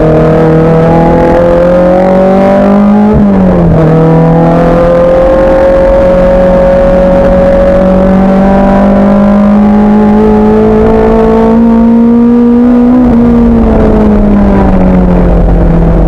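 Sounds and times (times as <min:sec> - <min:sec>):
racing car engine pulling hard: 0:00.0 - 0:16.0.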